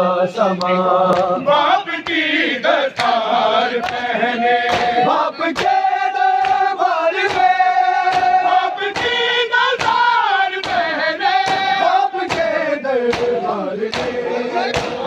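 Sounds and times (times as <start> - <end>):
men chanting: 0.0 - 15.0
crowd beating chests: 1.1 - 15.0.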